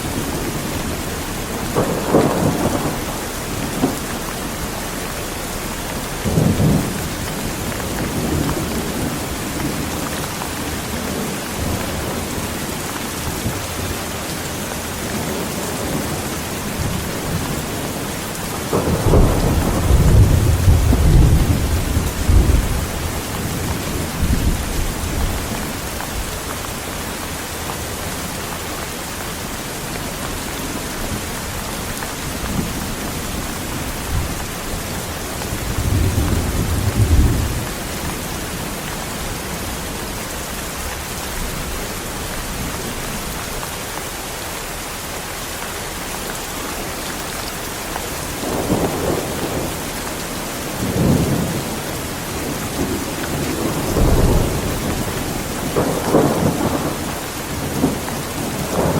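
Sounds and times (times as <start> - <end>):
thunder rumbles: 0.0 - 43.4, 47.9 - 58.9
heavy rain hissing: 0.0 - 58.9.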